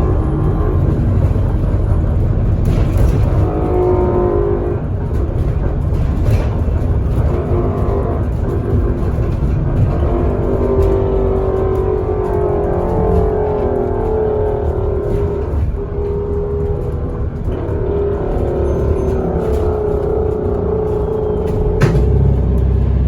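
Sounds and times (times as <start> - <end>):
bus engine and road rumble: 0.0 - 23.0
cabin rattles: 0.0 - 23.0.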